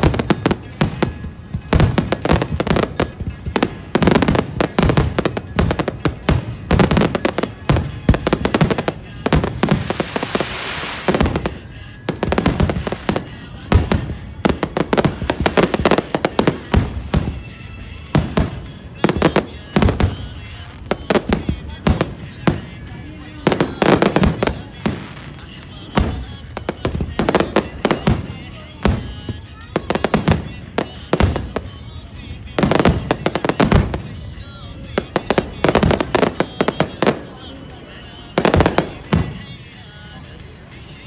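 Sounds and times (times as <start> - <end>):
fireworks bangs: 0.0 - 41.0
fireworks crackling hiss: 0.0 - 41.0.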